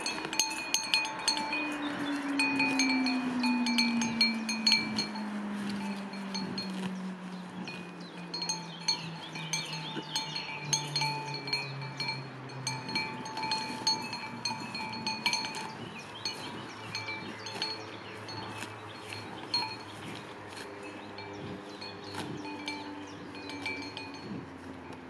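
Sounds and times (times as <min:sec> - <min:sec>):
metal chimes clinking: 0:00.0 - 0:07.0, 0:07.6 - 0:25.0
sustained bell tones: 0:00.0 - 0:25.0.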